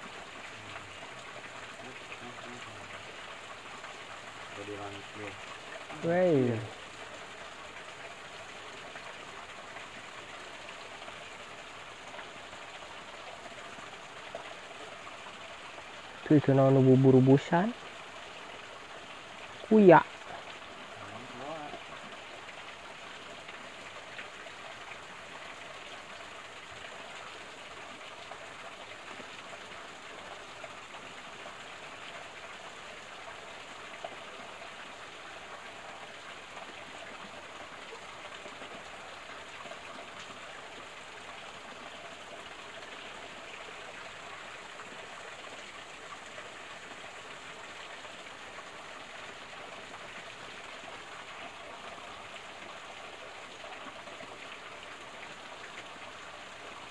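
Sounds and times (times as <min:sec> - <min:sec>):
water pattering in stream: 0:00.0 - 0:56.9.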